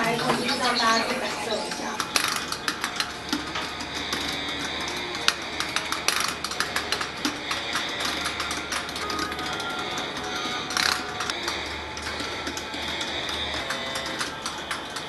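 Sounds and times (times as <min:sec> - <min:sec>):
relays clicking: 0:00.0 - 0:15.0
steady hum: 0:00.0 - 0:15.0.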